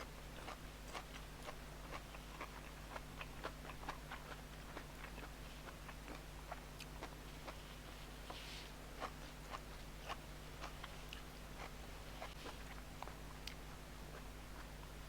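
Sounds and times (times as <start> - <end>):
low electrical hum: 0.0 - 15.0
person chewing: 0.3 - 7.6, 8.3 - 14.7.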